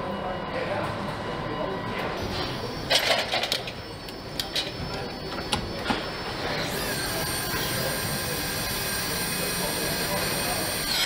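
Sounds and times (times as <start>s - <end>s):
high whining machine tones: 0.0s - 11.0s
noisy factory background: 0.0s - 11.0s
steady machine hum: 0.0s - 11.0s.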